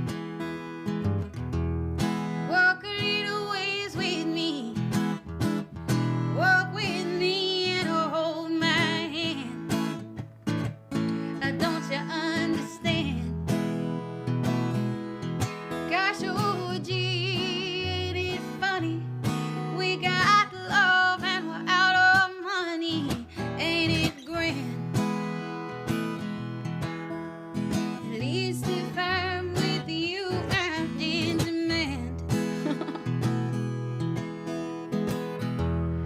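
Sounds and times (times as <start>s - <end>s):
strummed acoustic guitar: 0.0s - 36.0s
woman singing country song: 2.1s - 10.2s, 10.9s - 33.8s.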